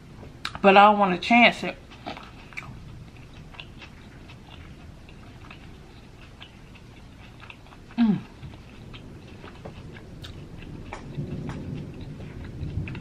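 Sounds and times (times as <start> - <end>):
person chewing food: 1.8 - 13.0.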